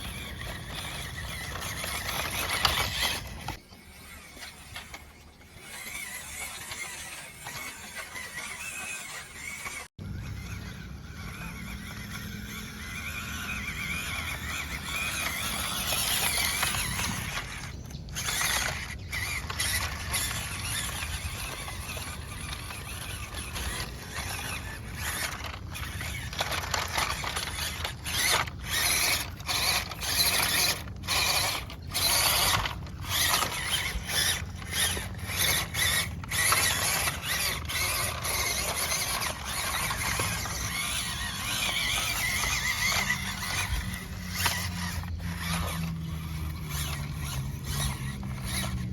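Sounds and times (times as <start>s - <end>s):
toy car electric motor whining: 0.0s - 48.9s.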